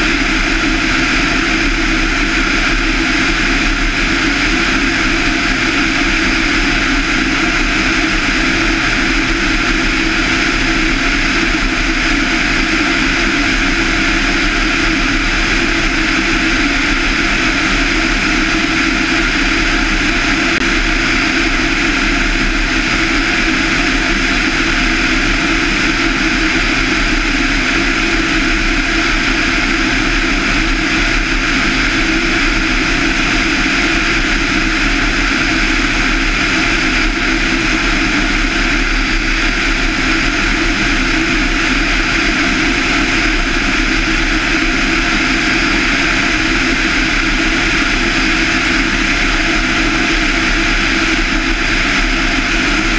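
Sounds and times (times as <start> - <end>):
airplane engine and propeller droning: 0.0 - 52.9.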